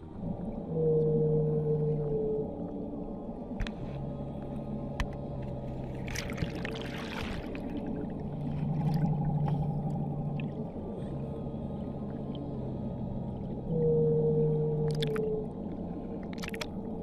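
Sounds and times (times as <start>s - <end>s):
whale calls: 0.0s - 17.0s.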